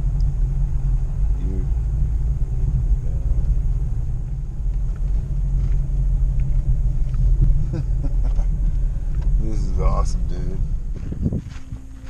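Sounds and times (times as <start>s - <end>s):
low rumble of engine and tyres: 0.0s - 12.0s.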